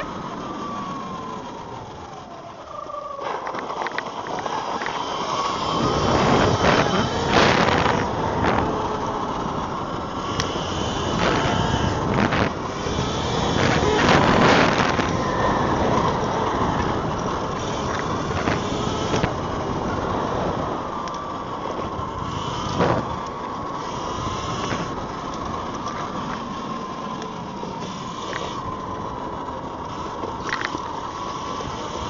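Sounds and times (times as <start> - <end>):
electric motor whine: 0.0 - 32.0
tyre noise: 0.0 - 32.0
wind noise: 0.0 - 32.0.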